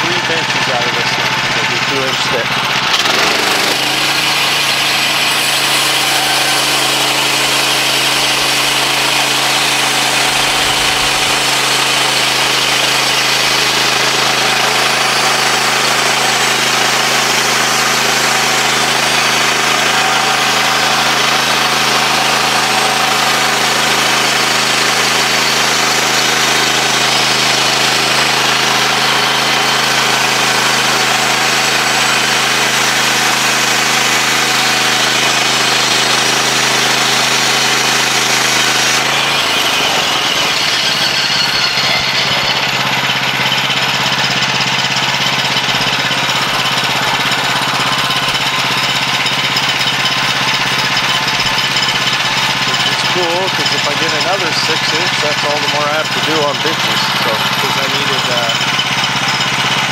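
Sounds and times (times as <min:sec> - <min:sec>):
bandsaw mill cutting log: 0:00.0 - 0:59.9.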